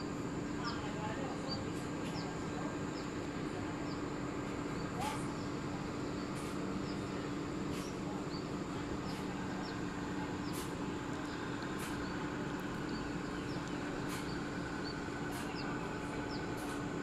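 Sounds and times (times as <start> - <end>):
background hum and noise: 0.0 - 17.0
small birds chirping: 0.3 - 17.0.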